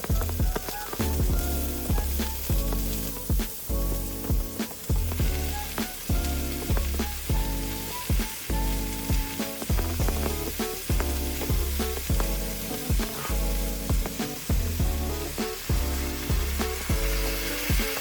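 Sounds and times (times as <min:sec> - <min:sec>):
background music with beat: 0:00.0 - 0:18.0
food sizzling in a pan: 0:00.0 - 0:18.0.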